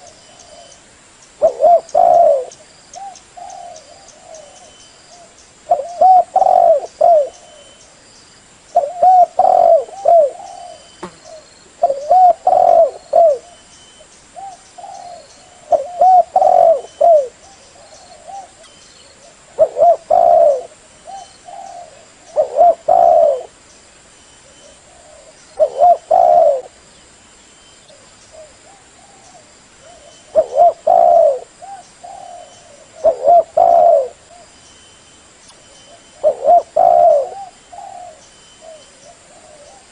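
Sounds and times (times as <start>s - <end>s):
dove cooing: 1.4s - 7.8s, 8.8s - 13.6s, 14.4s - 23.6s, 24.4s - 26.8s, 27.9s - 34.5s, 35.6s - 39.9s.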